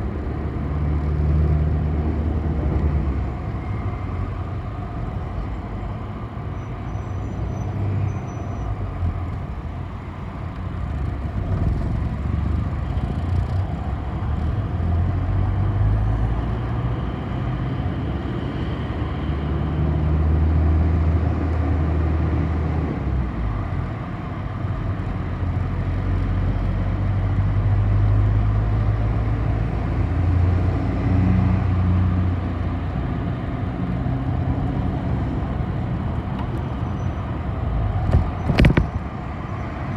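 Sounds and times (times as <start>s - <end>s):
bus engine running: 0.0s - 39.9s
road noise: 0.0s - 39.9s.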